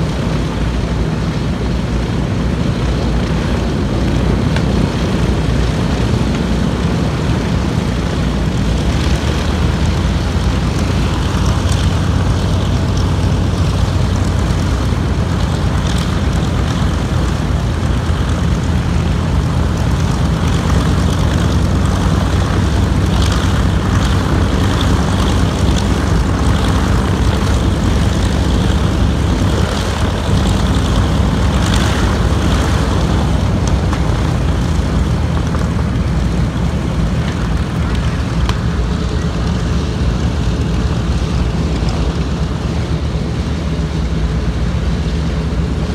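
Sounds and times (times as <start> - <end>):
aircraft radial engines running: 0.0 - 45.9.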